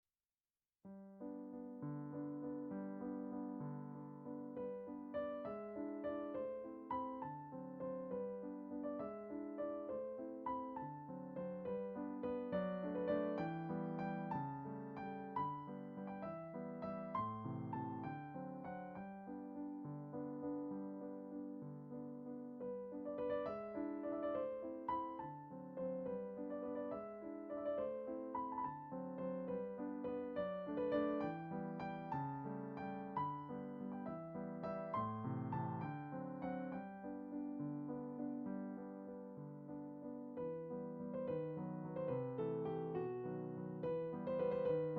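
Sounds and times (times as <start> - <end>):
gentle solo piano melody: 0.8 - 44.9.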